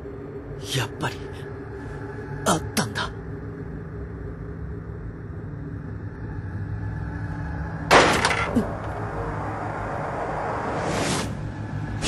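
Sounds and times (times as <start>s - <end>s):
low steady drone: 0.0s - 12.0s.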